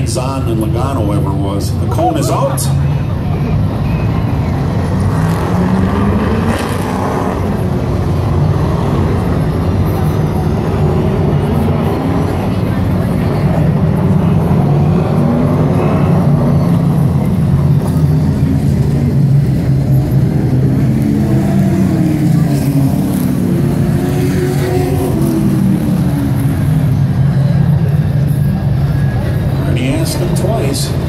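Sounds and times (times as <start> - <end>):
race truck engines: 0.0 - 31.0.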